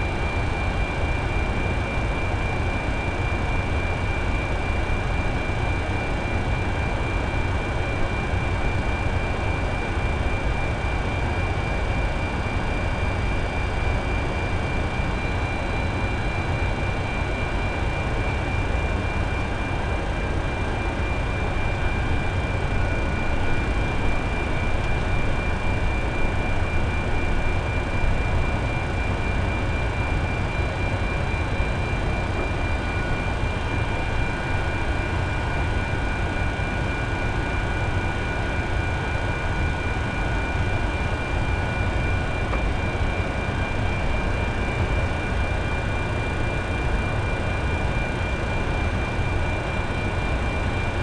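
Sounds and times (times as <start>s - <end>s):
drone of equipment and airflow: 0.0s - 51.0s
lower whine: 0.0s - 51.0s.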